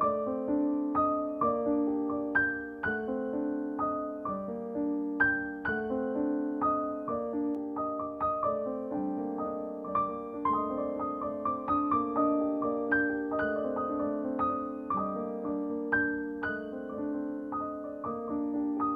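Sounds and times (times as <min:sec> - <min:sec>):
piano music: 0:00.0 - 0:18.9.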